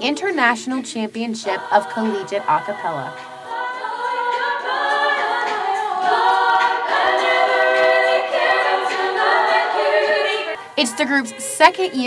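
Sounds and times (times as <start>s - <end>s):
female group singing a cappella: 0.3s - 12.0s.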